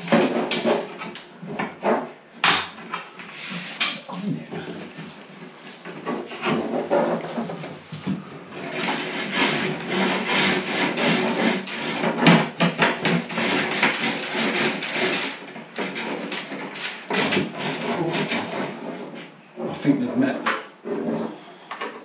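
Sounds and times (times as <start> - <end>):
rods scraping inside ceiling: 3.1 - 22.0.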